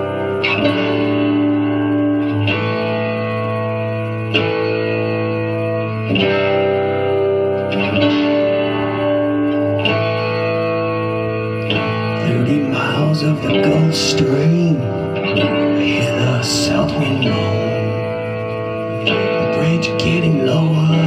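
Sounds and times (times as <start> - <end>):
guitar chords ringing: 0.0 - 21.0.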